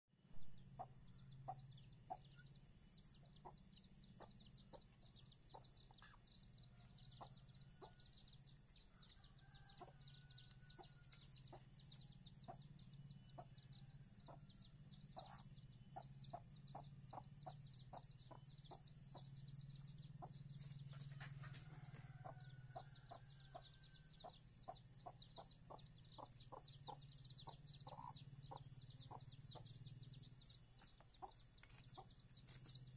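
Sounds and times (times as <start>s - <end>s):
steady low hum: 0.2s - 32.9s
chicks peeping: 0.5s - 32.9s
hen clucking softly: 0.8s - 29.9s.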